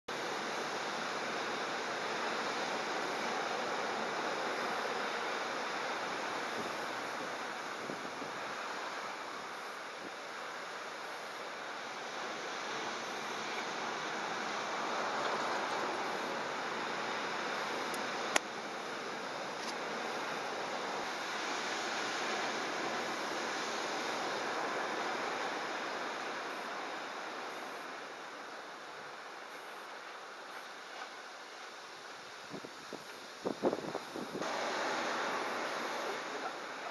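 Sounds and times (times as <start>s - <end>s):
storm surf breaking waves: 0.1s - 36.9s
strong wind: 0.1s - 36.9s.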